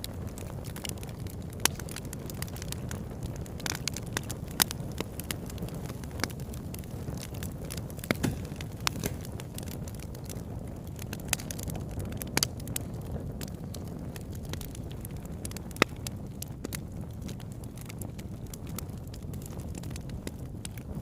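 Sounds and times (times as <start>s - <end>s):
burning wood crackling and popping: 0.0s - 21.0s
campfire rumble: 0.0s - 21.0s.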